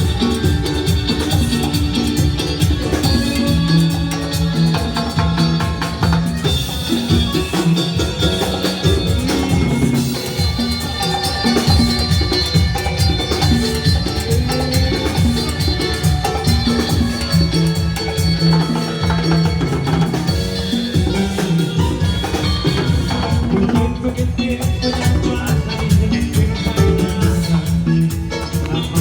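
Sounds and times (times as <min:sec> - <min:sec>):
band playing latin dance music: 0:00.0 - 0:29.0.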